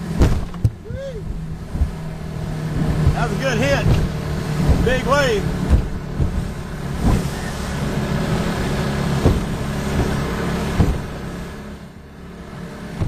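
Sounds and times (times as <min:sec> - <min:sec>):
boat motor running: 0:00.0 - 0:13.0
hull slamming into waves: 0:00.0 - 0:13.0.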